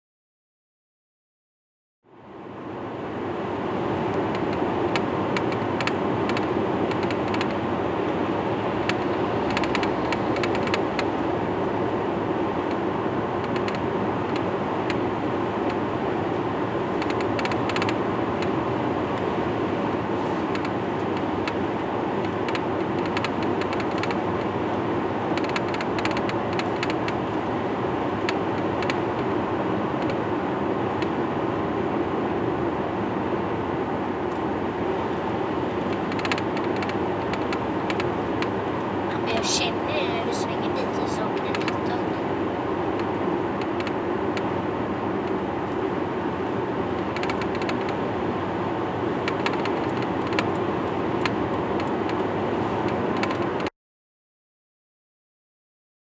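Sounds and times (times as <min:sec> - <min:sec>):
vehicle running noise: 0:02.1 - 0:53.7.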